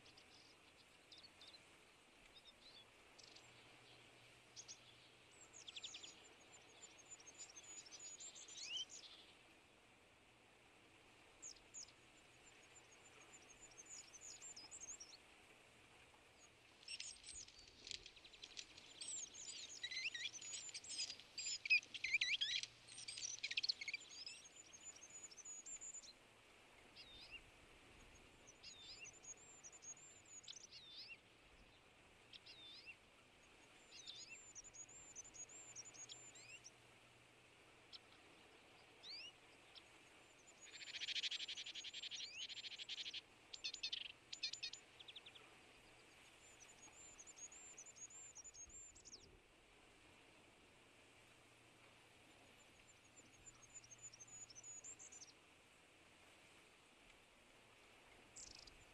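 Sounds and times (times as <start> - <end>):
small songbirds chirping: 0.0 - 58.9.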